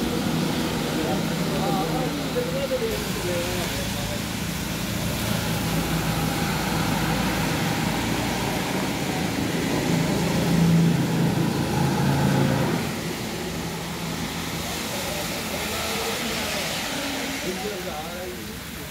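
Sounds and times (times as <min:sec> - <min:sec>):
truck engine drone: 0:00.0 - 0:18.8
tyre hiss on wet road: 0:00.0 - 0:18.9.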